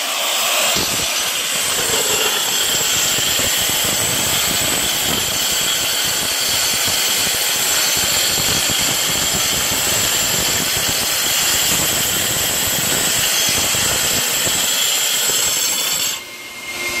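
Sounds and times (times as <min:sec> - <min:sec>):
floor grinder whining: 0:00.0 - 0:17.0.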